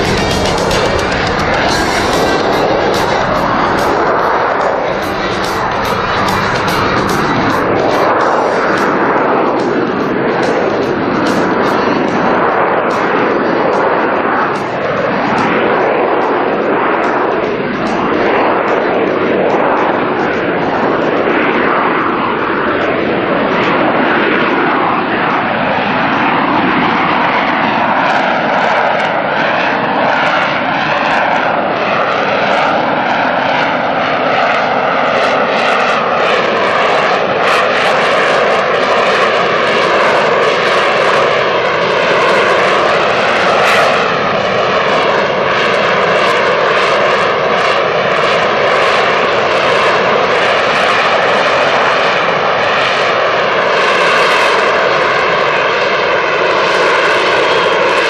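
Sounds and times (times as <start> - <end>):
jet engine roaring: 0.0 - 58.0.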